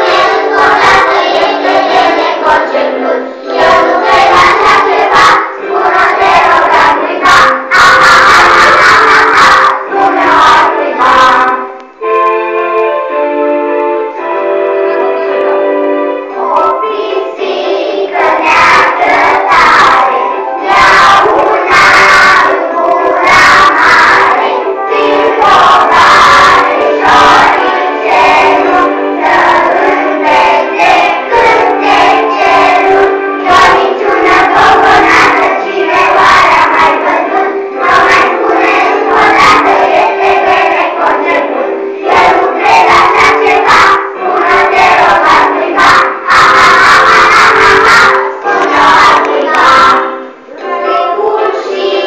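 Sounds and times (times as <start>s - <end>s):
children singing together: 0.0s - 13.2s, 14.0s - 52.0s
backing music with keyboard: 0.0s - 52.0s.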